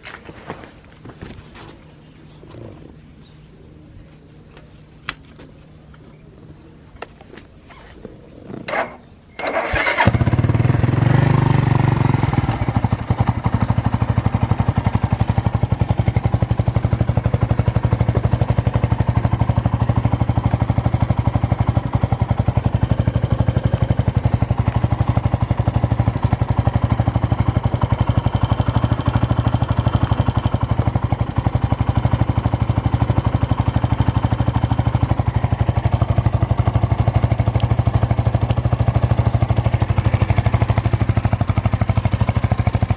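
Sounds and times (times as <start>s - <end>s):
motorcycle engine starting and idling: 0.0s - 42.9s.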